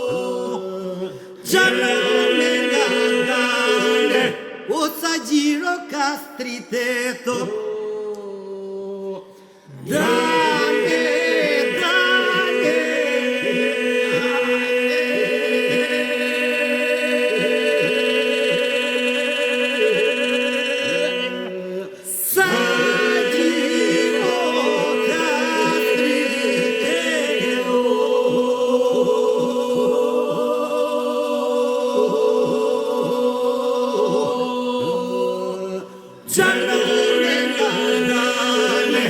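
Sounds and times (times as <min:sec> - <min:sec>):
group singing polyphonic folk song: 0:00.0 - 0:39.0.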